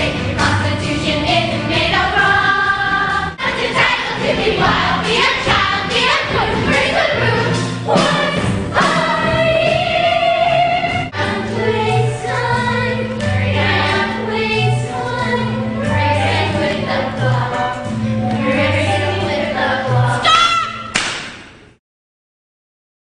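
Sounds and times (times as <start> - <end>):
group of voices singing: 0.0 - 20.4.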